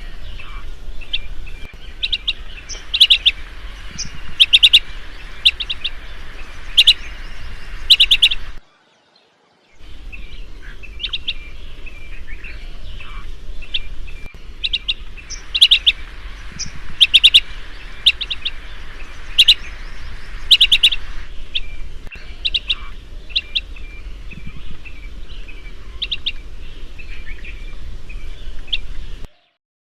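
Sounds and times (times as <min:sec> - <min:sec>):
background hiss: 0:00.0 - 0:29.3
bird trilled chirps: 0:00.4 - 0:08.6, 0:10.1 - 0:28.9.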